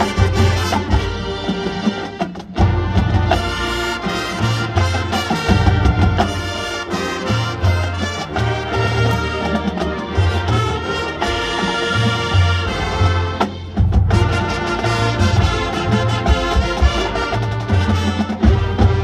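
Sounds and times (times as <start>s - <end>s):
drums: 0.0s - 19.0s
marching band brass: 0.0s - 19.0s.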